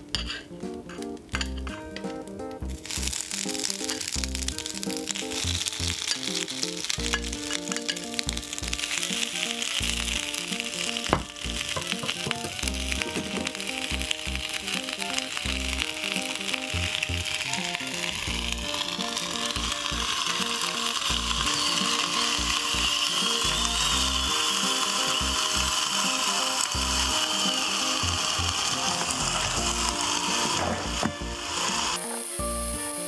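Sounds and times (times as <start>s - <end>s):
background music: 0.0s - 33.0s
food sizzling in waffle maker: 0.2s - 33.0s.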